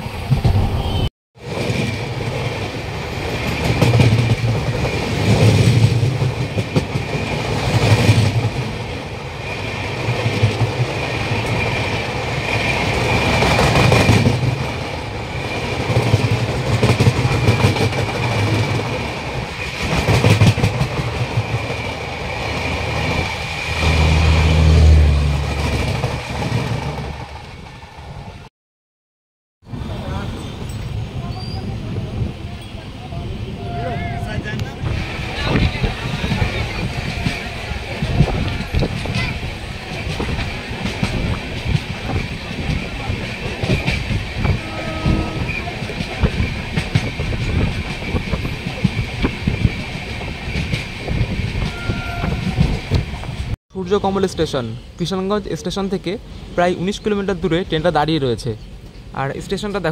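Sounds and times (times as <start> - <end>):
train rumble and rattle: 0.0 - 28.5, 29.7 - 59.9.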